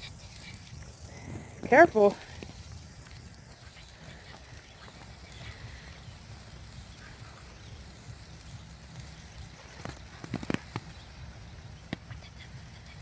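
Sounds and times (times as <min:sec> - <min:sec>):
small firework pops: 0:00.0 - 0:13.0
wind rumbling on microphone: 0:00.0 - 0:13.0.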